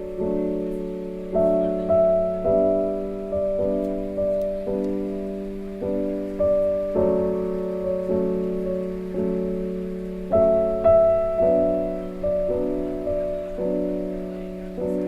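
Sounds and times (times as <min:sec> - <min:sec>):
slow music with sustained chords: 0:00.0 - 0:15.0.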